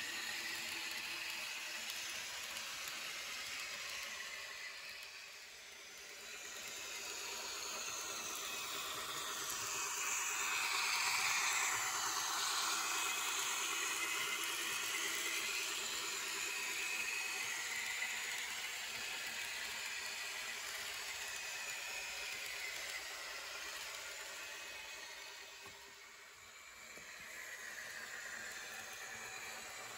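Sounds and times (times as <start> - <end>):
model train wheels whirring: 0.0 - 29.9.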